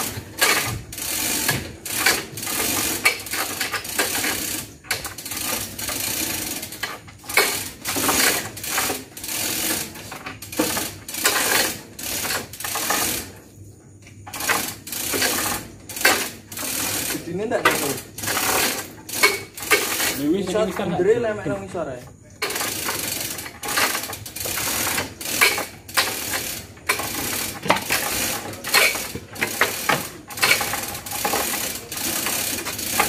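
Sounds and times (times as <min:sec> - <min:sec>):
chain hoist rattling: 0:00.0 - 0:13.6, 0:14.2 - 0:33.0.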